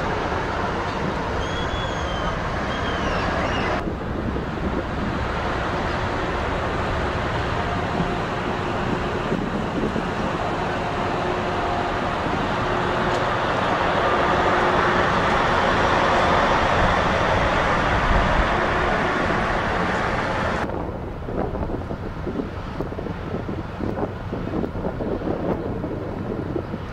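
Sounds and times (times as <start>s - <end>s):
boat engine drone: 0.0s - 26.9s
wind gusts on microphone: 0.0s - 26.9s.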